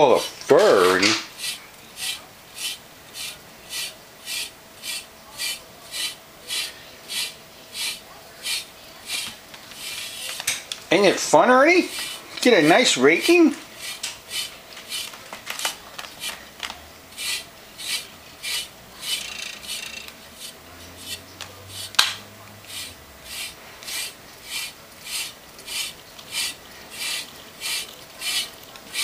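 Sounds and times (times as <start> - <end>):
rake tines rasping through fur: 0.0 - 16.4, 17.1 - 29.0.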